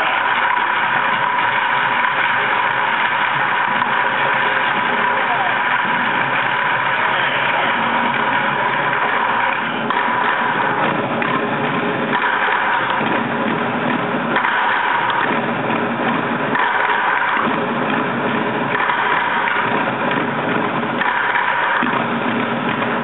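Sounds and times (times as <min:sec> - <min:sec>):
group drumming on plastic buckets: 0:00.0 - 0:23.0.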